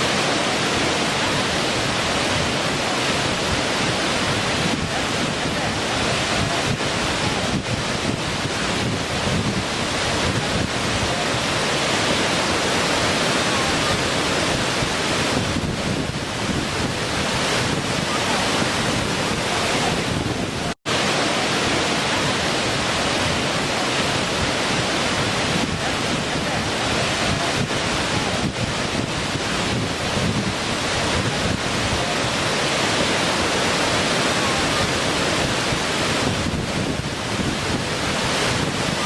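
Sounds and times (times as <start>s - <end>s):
waterfall splashing: 0.0s - 39.0s.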